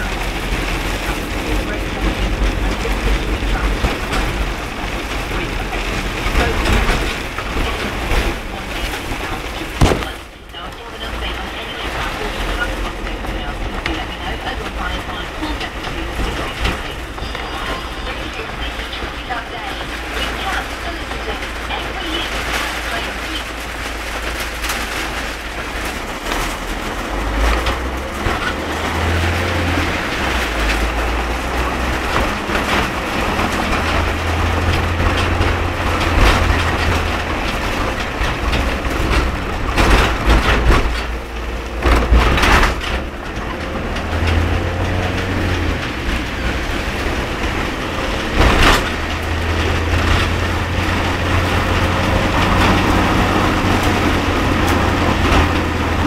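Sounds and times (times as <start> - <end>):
car engine and road rumble: 0.0 - 56.0
heavy rain on a car: 0.0 - 56.0.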